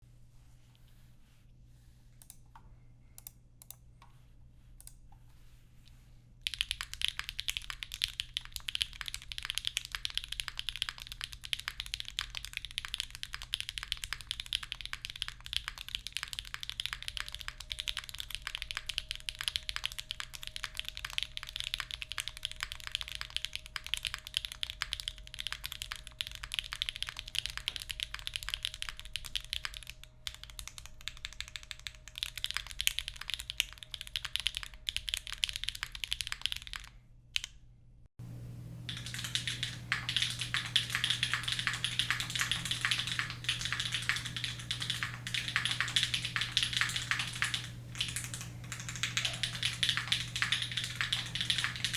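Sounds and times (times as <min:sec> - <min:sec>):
mechanical keyboard typing: 0:06.4 - 0:37.5, 0:38.6 - 0:51.9.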